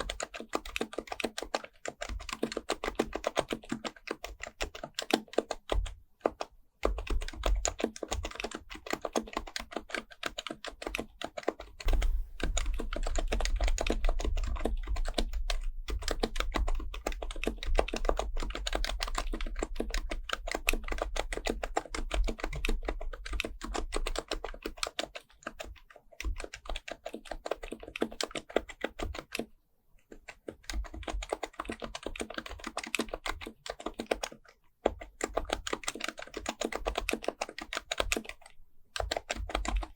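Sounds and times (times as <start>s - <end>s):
fast keyboard typing: 0.0s - 29.5s, 30.1s - 39.9s.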